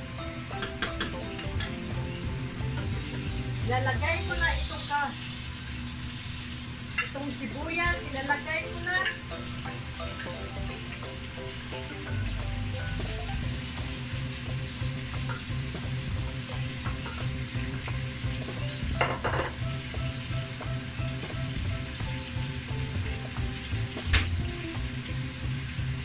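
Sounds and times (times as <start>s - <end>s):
poultry sizzling in a pan: 0.0s - 26.0s.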